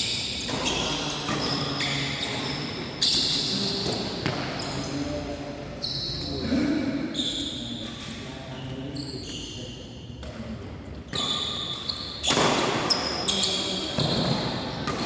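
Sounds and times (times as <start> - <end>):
shoes squeaking on court: 0.0 - 6.5, 7.1 - 10.4, 11.1 - 15.0.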